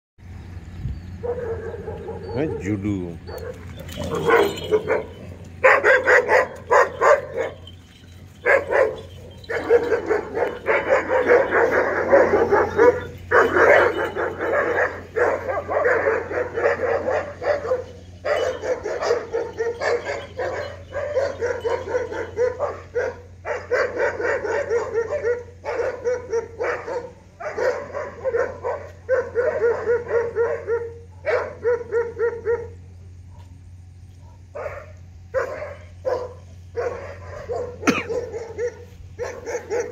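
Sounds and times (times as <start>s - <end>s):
dog barking: 1.2s - 2.7s, 3.3s - 7.8s, 8.4s - 33.6s, 34.2s - 39.9s.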